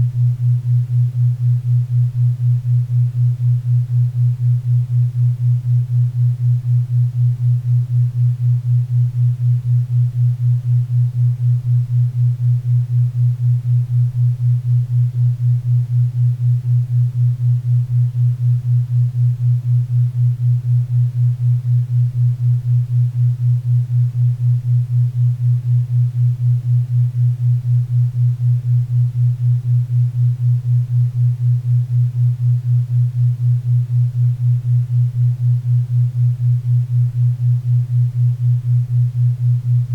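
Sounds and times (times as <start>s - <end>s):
low pulsing tone: 3.2s - 39.9s.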